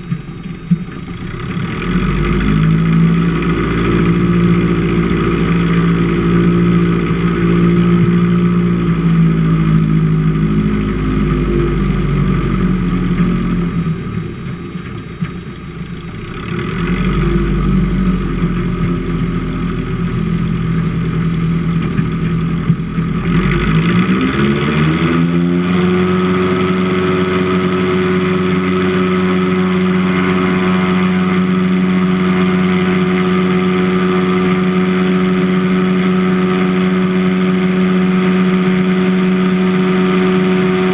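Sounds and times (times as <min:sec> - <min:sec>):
seaplane piston engine: 0:00.0 - 0:40.9.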